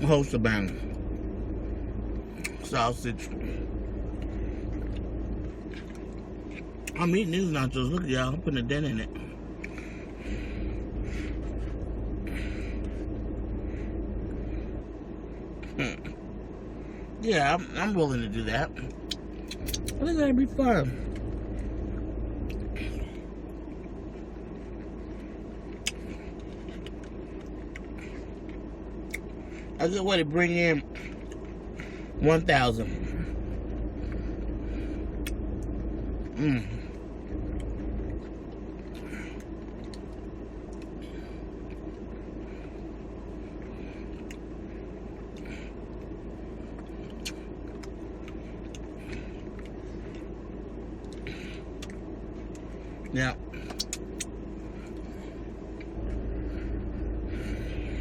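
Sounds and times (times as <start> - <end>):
low background rumble: 0.0 - 58.0
steady low hum: 0.0 - 58.0.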